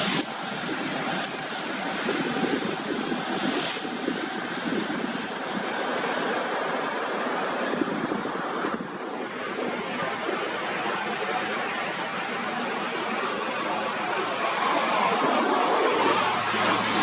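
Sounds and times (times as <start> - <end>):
airliner engines running: 0.0 - 17.0.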